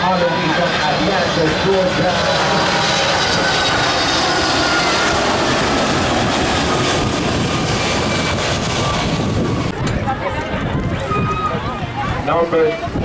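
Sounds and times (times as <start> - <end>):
jet airliner engines passing overhead: 0.0 - 13.0.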